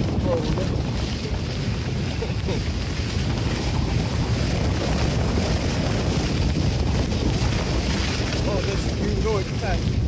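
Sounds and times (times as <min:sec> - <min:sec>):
engine and tyres rumbling: 0:00.0 - 0:10.0
wind buffeting microphone: 0:00.0 - 0:10.0.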